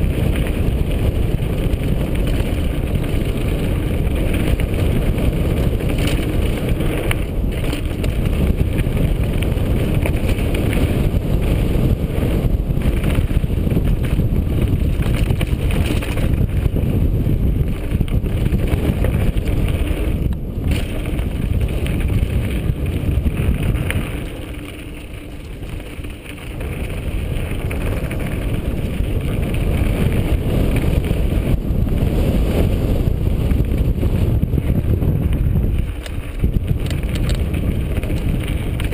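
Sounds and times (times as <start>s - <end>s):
bike rattling over rocks: 0.0s - 38.9s
wind buffeting microphone: 0.0s - 38.9s.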